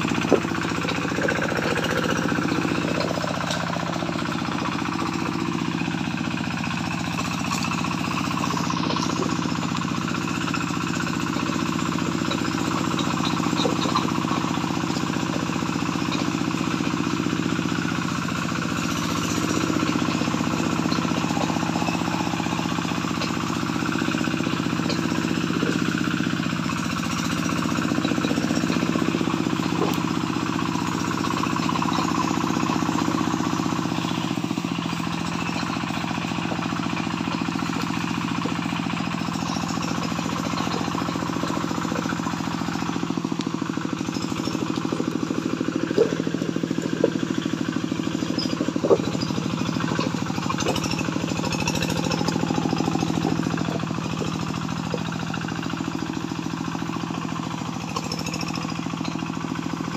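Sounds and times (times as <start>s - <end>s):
tractor engine knocking: 0.0s - 59.9s.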